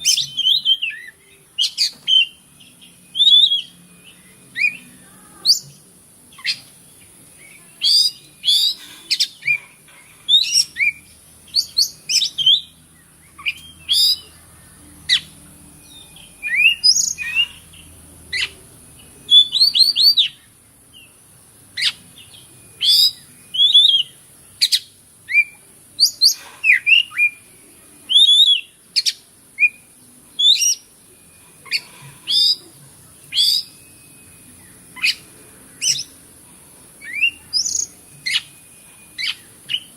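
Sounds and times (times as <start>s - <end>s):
bird singing whistles and chirps: 0.0s - 9.6s, 10.3s - 21.2s, 21.8s - 36.3s, 37.0s - 39.9s
steady high hiss: 0.0s - 39.9s.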